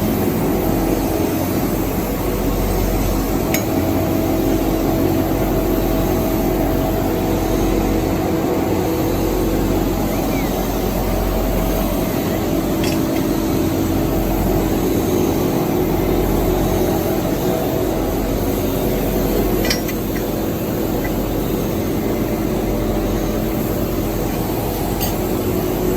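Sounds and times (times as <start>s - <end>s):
workshop machinery humming: 0.0s - 25.9s.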